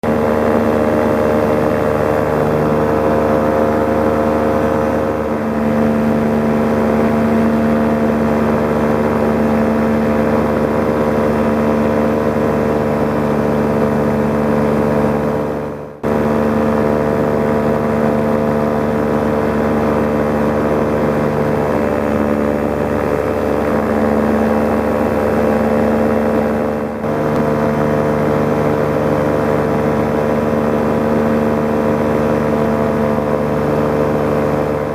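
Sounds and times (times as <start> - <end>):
paramotor engine and propeller: 0.0 - 34.9.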